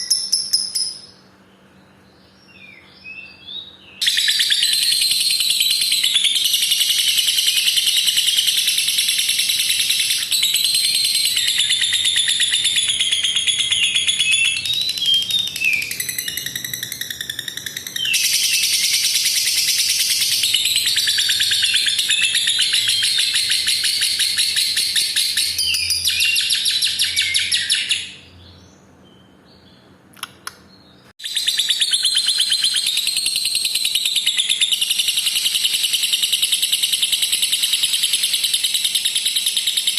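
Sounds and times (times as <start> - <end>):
lovebird high-pitched trill: 0.0 - 1.2, 2.7 - 28.4, 31.2 - 39.9.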